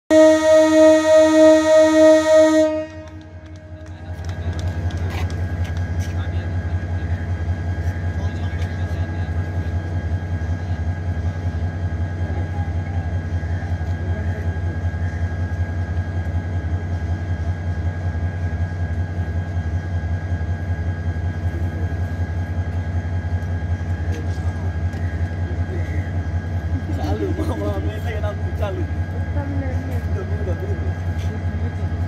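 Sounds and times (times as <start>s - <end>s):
diesel engine idling: 0.1s - 32.0s.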